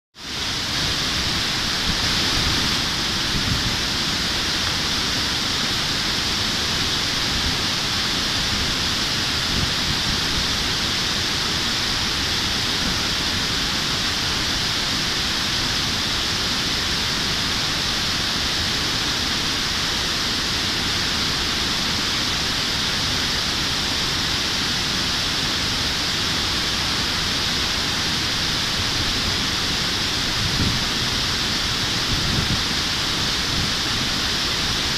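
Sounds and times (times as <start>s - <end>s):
stream rushing over weir: 0.2s - 34.9s.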